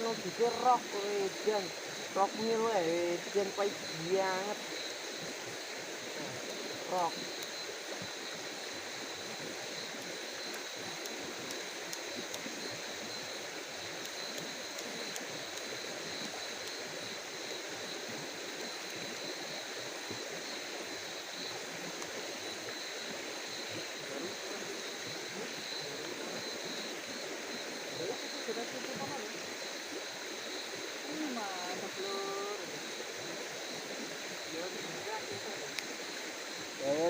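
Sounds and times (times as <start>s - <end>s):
running water rushing: 0.0s - 37.0s.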